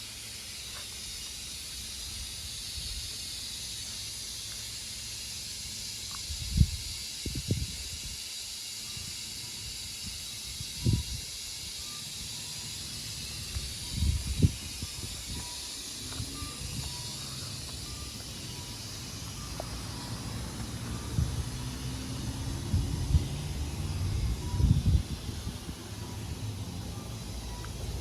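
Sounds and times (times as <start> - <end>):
clock mechanism hissing: 0.0 - 28.0.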